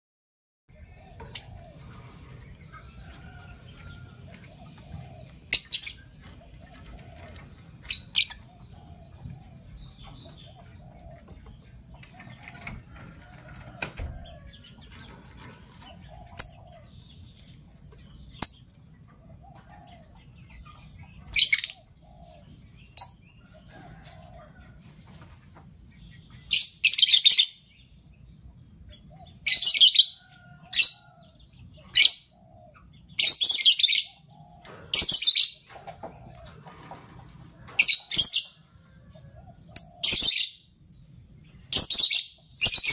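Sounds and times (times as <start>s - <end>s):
lovebirds chattering softly: 0.8s - 12.8s, 14.2s - 24.1s, 28.7s - 42.9s.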